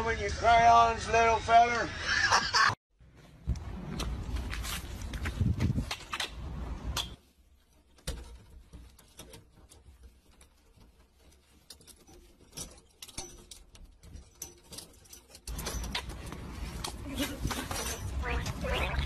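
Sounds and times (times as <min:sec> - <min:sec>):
handling bumps: 0:03.4 - 0:19.0.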